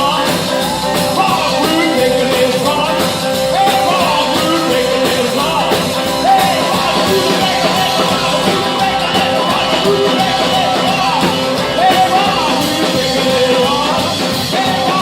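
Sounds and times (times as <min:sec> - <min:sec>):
rockabilly band playing live: 0:00.0 - 0:15.0.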